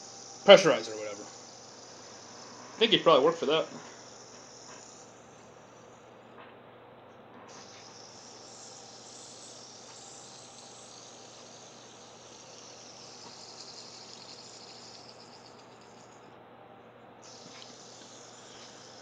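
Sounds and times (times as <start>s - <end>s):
fidget spinner whirring: 0.0s - 6.5s, 7.3s - 16.4s, 17.2s - 19.0s.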